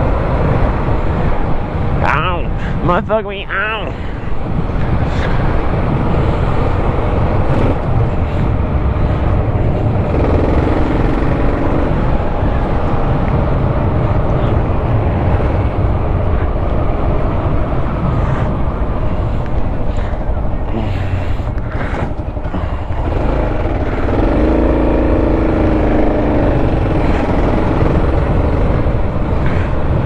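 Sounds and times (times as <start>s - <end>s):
wind and road noise: 0.0s - 30.0s.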